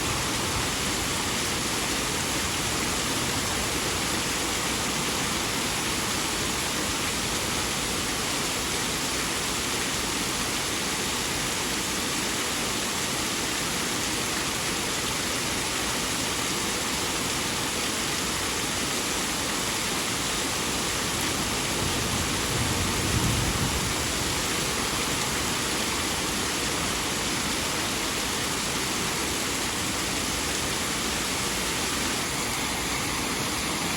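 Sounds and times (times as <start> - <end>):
rain falling: 0.0 - 13.3, 15.9 - 33.9.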